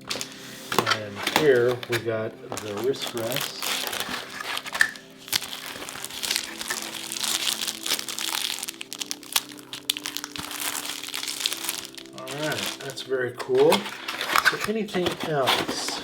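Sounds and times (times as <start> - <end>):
packaging crinkling and rustling: 0.0 - 16.0
soft background music: 0.0 - 16.0.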